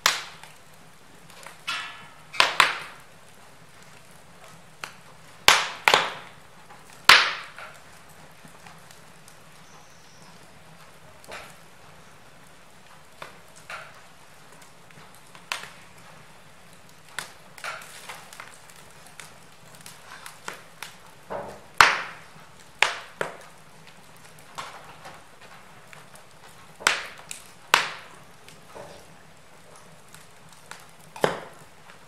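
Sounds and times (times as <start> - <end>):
faint steady hiss: 0.0 - 32.0
wood fire crackling: 0.0 - 32.0.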